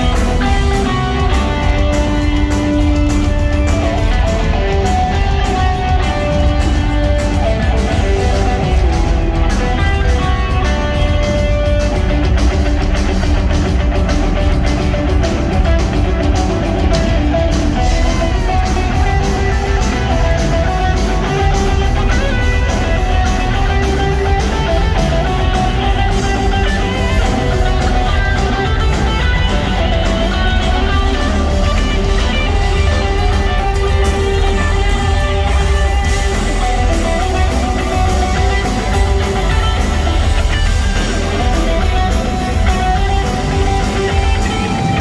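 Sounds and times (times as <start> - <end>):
bass guitar: 0.0 - 45.0
drum kit: 0.0 - 45.0
electric guitars: 0.0 - 45.0.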